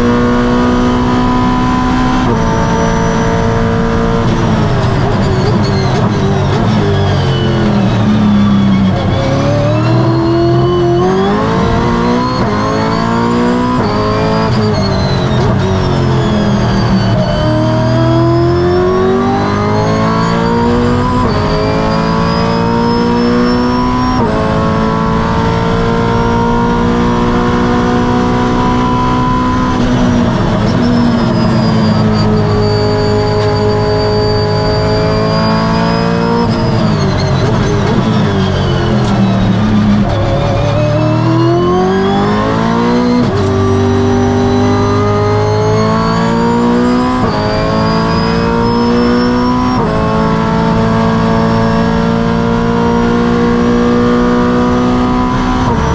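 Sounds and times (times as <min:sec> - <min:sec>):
racing engine revving: 0:00.0 - 0:55.9.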